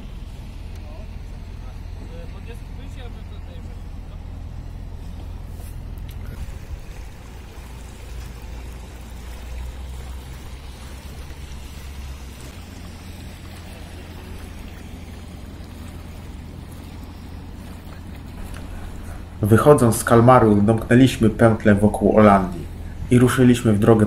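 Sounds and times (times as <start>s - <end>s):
steady low rumble: 0.0s - 24.0s
water noise: 0.0s - 24.0s
wind: 0.0s - 24.0s.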